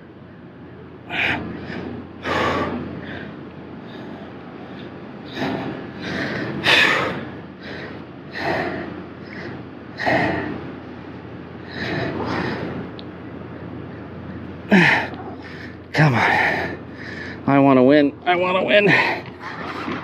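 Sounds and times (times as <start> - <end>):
man breathing hard: 1.0 - 17.5.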